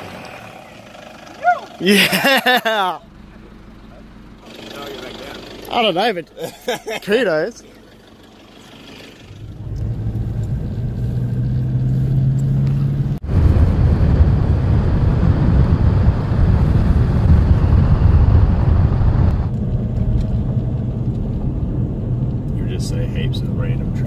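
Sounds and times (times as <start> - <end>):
vehicle engine running: 0.0 - 24.0
vehicle rough rumble moving: 0.0 - 24.0.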